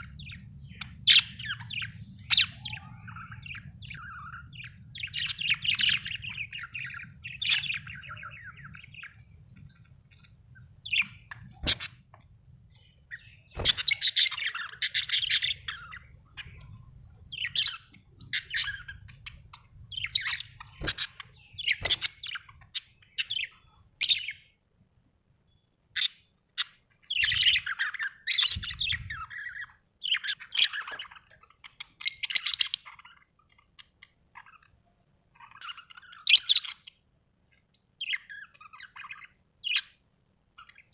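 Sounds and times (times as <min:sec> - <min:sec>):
parrots chirping and squawking: 0:00.0 - 0:24.5, 0:26.0 - 0:37.0, 0:38.0 - 0:40.0, 0:40.6 - 0:40.9.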